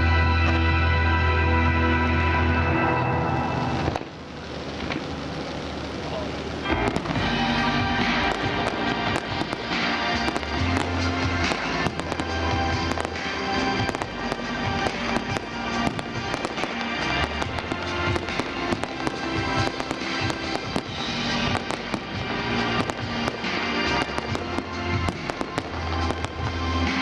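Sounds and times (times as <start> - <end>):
fireworks bangs and crackles: 0.0 - 1.3, 2.9 - 27.0
music with held notes: 0.0 - 5.0, 6.6 - 27.0.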